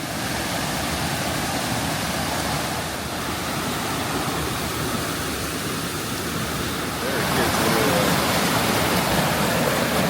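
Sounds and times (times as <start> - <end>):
mountain stream rushing: 0.0 - 10.0.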